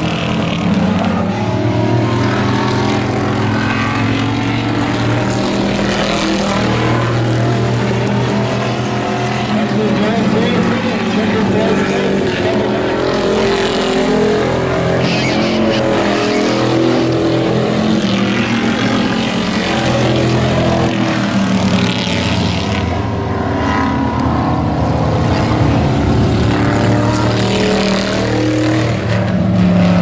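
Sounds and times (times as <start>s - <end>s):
race truck engines: 0.0s - 30.0s.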